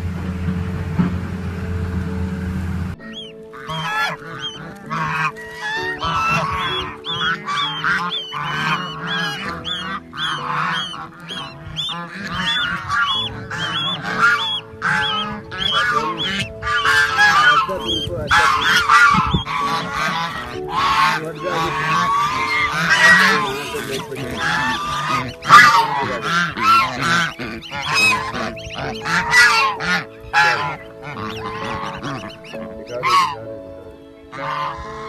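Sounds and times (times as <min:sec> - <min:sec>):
background music: 0:00.0 - 0:35.0
geese honking: 0:00.0 - 0:35.0
goslings peeping: 0:00.0 - 0:35.0.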